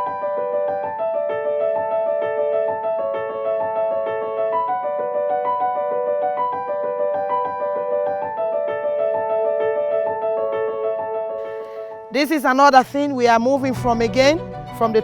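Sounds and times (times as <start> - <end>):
piano-like keyboard melody: 0.0 - 15.0.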